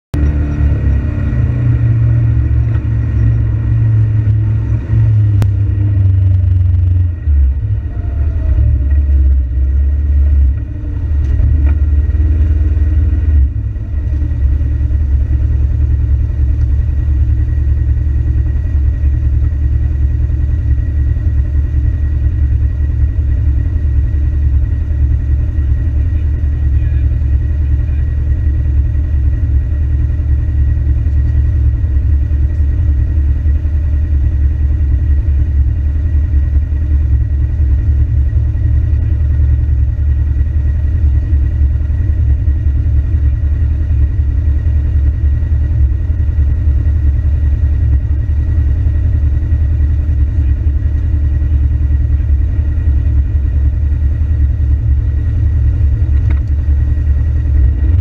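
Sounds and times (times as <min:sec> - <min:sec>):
engine drone from inside cab: 0:00.1 - 0:58.0.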